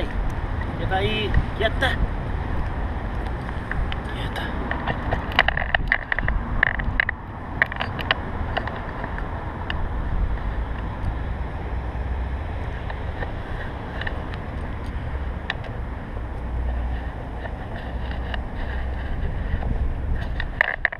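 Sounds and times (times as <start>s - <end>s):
wind and movement rumble: 0.0s - 20.9s.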